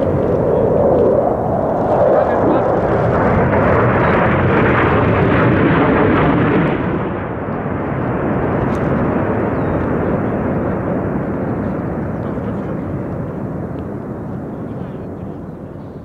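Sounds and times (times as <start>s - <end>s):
fighter jet flying low: 0.0s - 16.0s.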